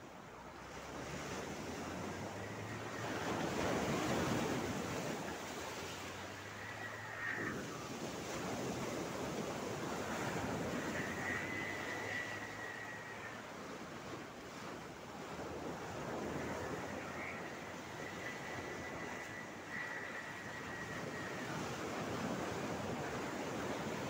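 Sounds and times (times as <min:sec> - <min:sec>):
sea waves breaking on rocks: 0:00.2 - 0:24.0.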